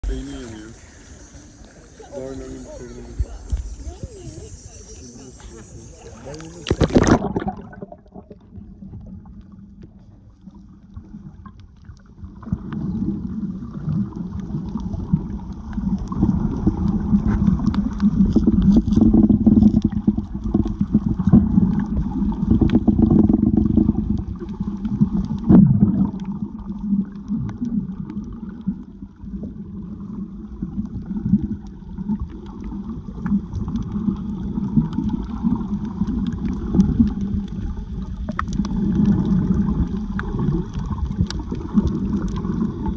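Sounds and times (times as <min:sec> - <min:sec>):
underwater rumble and sloshing: 0:00.0 - 0:42.9.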